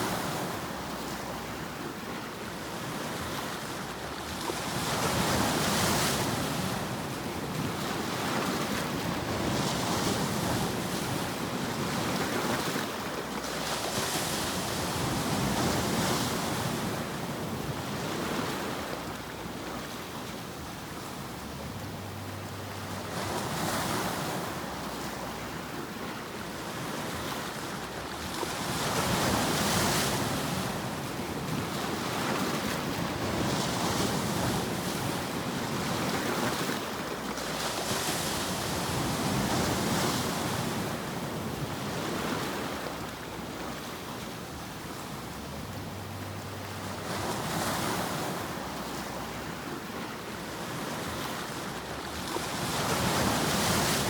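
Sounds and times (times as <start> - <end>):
waves breaking: 0.0 - 54.0.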